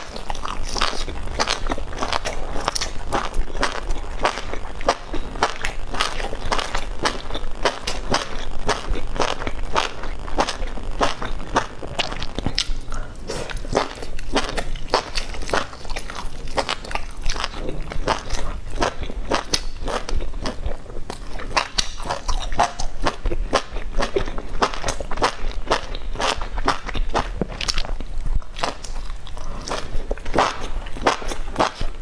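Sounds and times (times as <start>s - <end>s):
crunchy chewing and biting: 0.0s - 32.0s.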